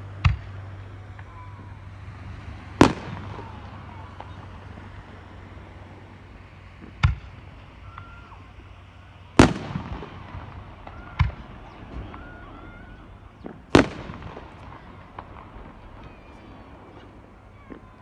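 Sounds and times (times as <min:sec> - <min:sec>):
firework shells booming: 0:00.0 - 0:18.0.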